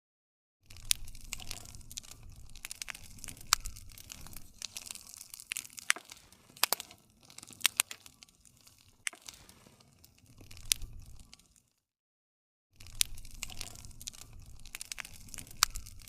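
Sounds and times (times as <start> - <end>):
wood fire crackling: 0.6 - 11.8, 12.8 - 16.0.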